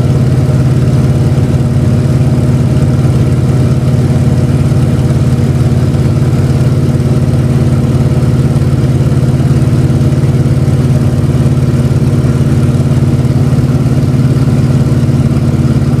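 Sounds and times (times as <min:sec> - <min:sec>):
radial piston aircraft engine droning: 0:00.0 - 0:16.0.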